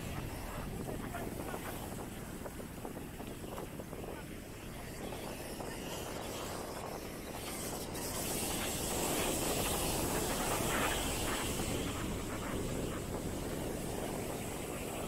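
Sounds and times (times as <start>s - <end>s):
waves washing on beach: 0.0s - 15.0s
wind on microphone: 0.0s - 15.0s.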